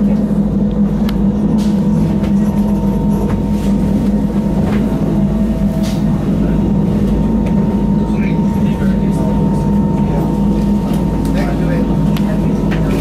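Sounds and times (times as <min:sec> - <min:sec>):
train motor and gear hum: 0:00.0 - 0:13.0.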